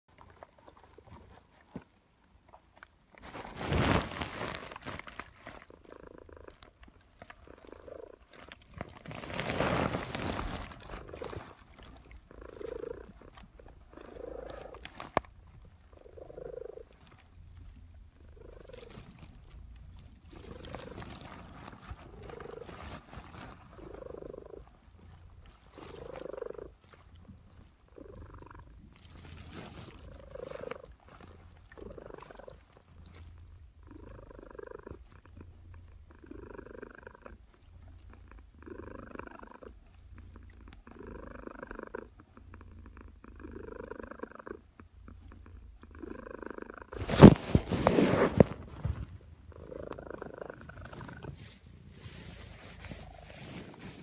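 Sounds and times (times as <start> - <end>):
cat purring: 2.5 - 54.0.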